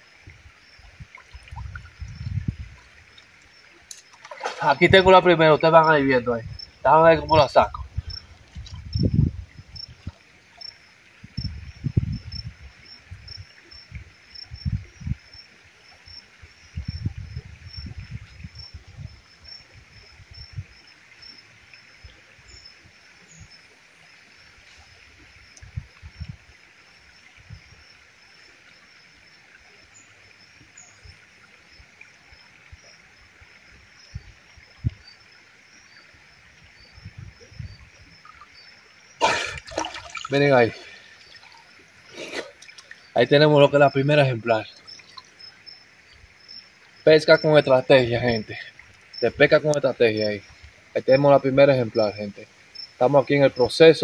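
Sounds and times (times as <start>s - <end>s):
insect chirping: 0.0s - 54.0s
stream flowing over stones: 0.0s - 54.0s.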